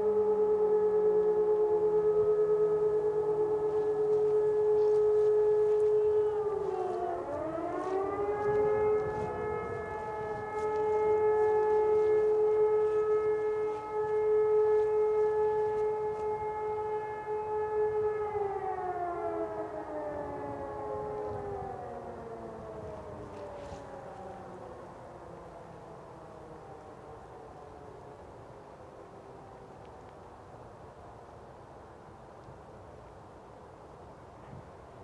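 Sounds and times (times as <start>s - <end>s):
electromechanical sirens wailing: 0.0s - 30.6s.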